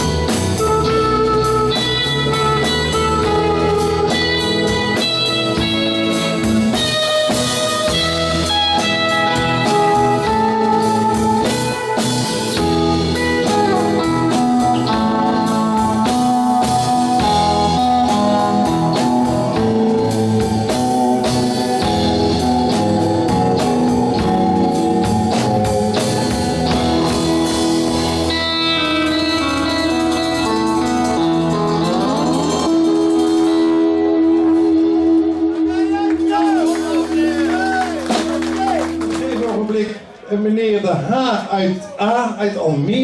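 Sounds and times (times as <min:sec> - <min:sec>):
steady drum beat: 0:00.0 - 0:34.4, 0:35.5 - 0:40.1
guitar: 0:00.0 - 0:40.3.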